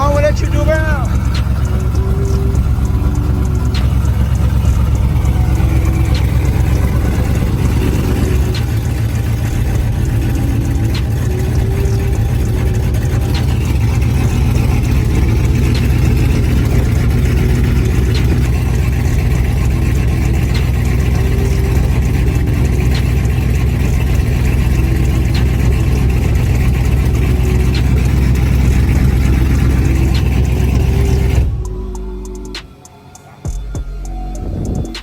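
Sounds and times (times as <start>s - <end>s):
truck engine idling loudly: 0.0s - 35.0s.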